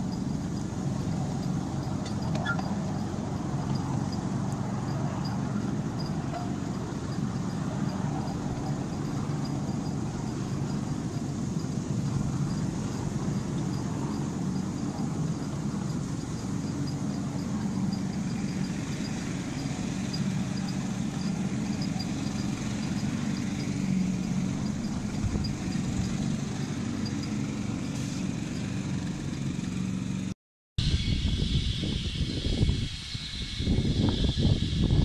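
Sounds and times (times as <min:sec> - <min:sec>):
miniature train engine humming: 0:00.0 - 0:35.0.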